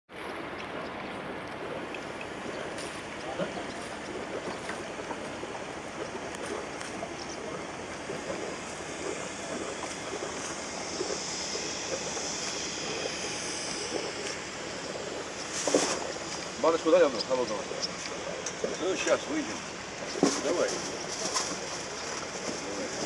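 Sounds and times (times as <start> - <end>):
water rushing past boat: 0.1 - 23.0.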